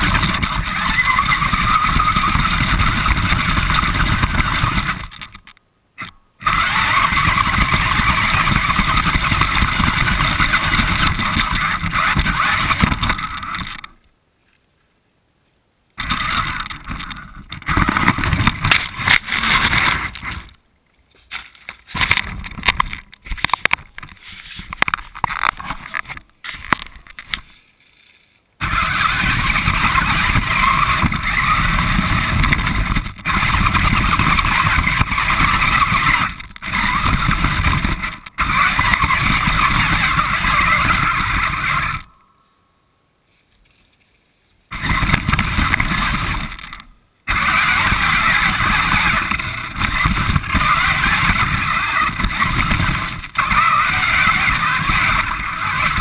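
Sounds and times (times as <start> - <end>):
radio-controlled car driving: 0.0 - 14.0, 16.0 - 20.6, 21.9 - 27.7, 28.6 - 42.3, 44.7 - 56.0.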